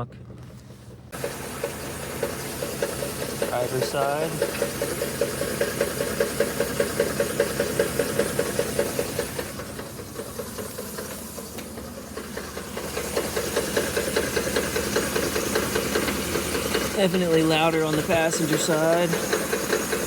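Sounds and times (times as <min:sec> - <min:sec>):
engine idling with rhythmic knock: 0:00.0 - 0:20.0.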